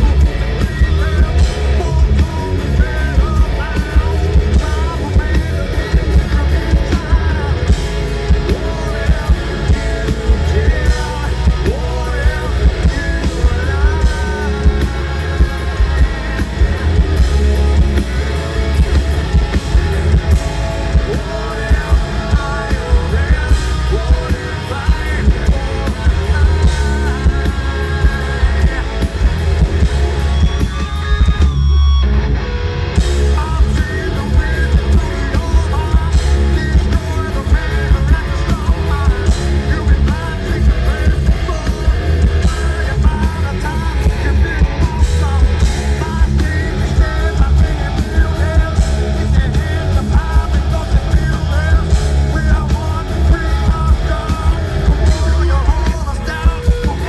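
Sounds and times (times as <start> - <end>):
man singing: 0.0 - 31.6, 33.0 - 57.0
hard rock band playing: 0.0 - 57.0.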